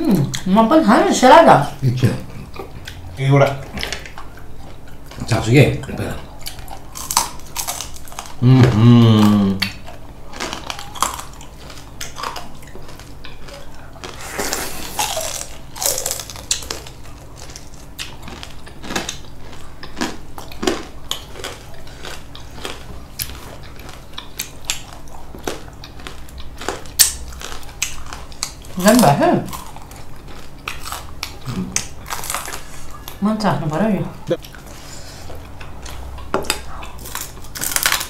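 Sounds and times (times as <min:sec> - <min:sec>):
chewing and crunching food: 0:01.3 - 0:38.0.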